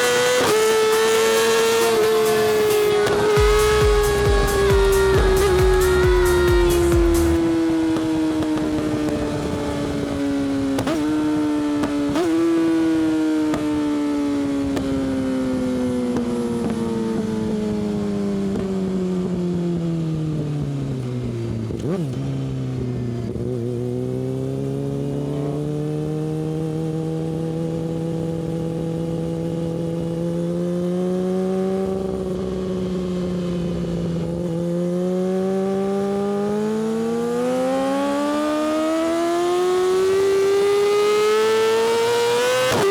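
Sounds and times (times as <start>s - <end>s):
sport bike engine revving: 0.0s - 19.4s, 21.7s - 42.9s.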